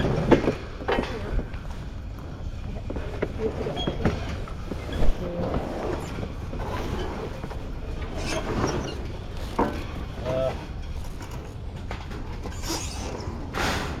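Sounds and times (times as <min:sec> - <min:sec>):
gear rattling and clanking: 0:00.0 - 0:13.5.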